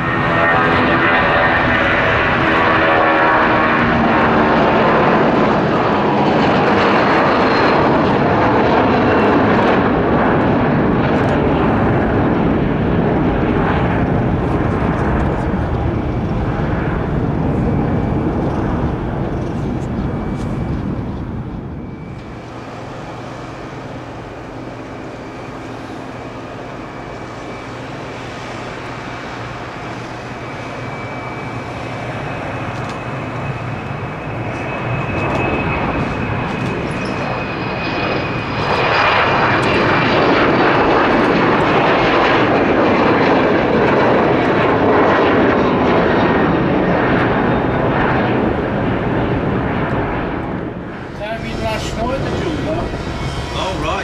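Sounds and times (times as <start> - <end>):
jet engine whine and roar: 0.0 - 54.0.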